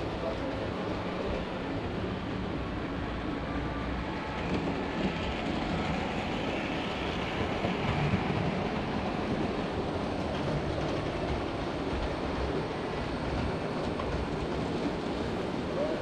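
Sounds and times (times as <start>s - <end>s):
model train rolling on track: 0.0s - 16.0s.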